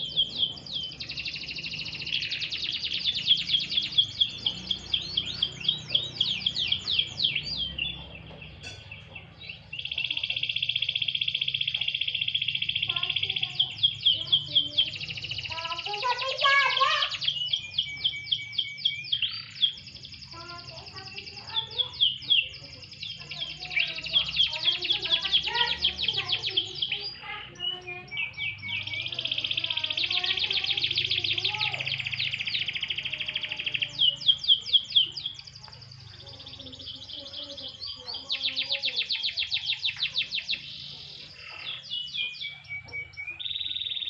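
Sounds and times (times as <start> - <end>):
canary singing trills: 0.0 - 44.0.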